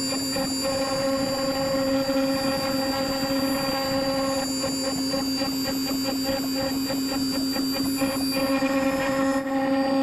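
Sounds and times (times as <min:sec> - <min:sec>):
router spindle whine: 0:00.0 - 0:10.0.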